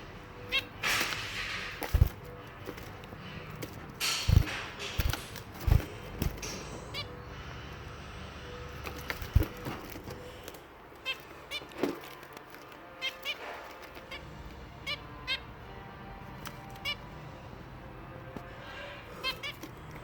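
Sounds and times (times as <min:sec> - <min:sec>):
finches chirping: 0:00.0 - 0:17.6, 0:18.4 - 0:20.0.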